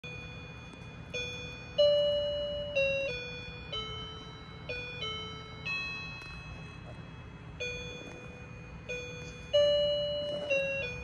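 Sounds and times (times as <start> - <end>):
electronic toy piano beeping melody: 0.0 - 11.0.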